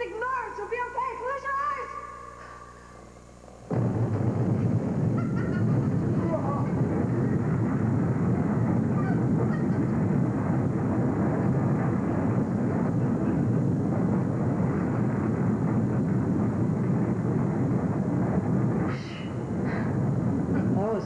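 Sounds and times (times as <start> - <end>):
explosion low rumble: 3.7 - 21.0.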